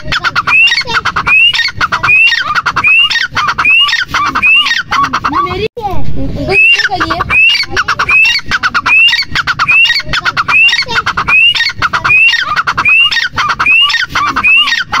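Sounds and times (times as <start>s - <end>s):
bird whistling and rattling call: 0.3s - 5.0s, 6.5s - 15.0s.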